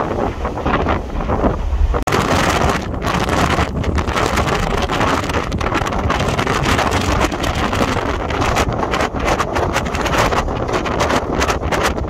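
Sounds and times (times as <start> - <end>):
sea rushing along hull: 0.0 - 12.0
wind buffeting the microphone: 0.0 - 12.0.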